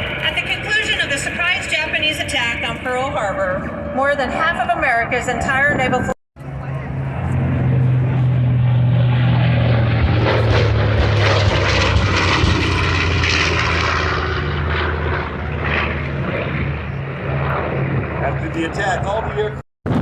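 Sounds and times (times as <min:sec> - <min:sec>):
propeller airplane flying past: 0:00.0 - 0:20.0.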